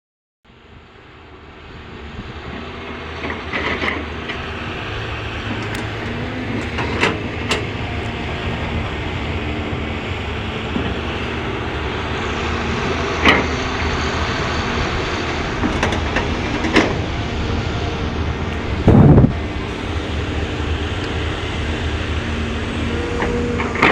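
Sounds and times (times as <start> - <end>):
excavator diesel engine running: 0.5 - 23.9.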